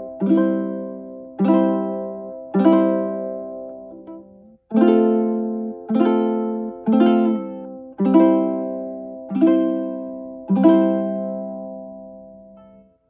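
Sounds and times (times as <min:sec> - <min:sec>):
ukulele chords ringing: 0:00.0 - 0:13.0.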